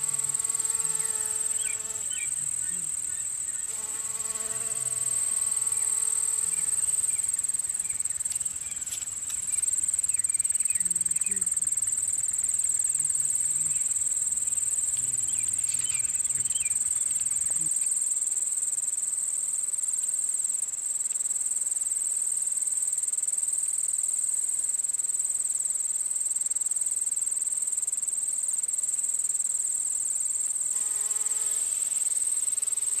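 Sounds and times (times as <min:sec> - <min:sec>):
insect chorus trilling: 0:00.0 - 0:33.0.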